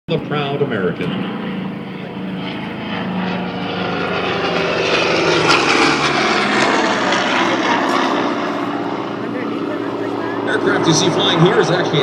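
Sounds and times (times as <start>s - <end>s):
propeller plane droning by: 0.1s - 12.0s.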